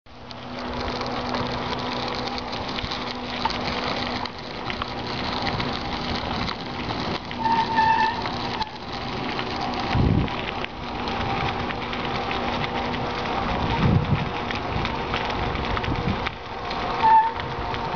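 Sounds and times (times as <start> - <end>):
bicycle tyres on gravel: 0.1 - 17.9.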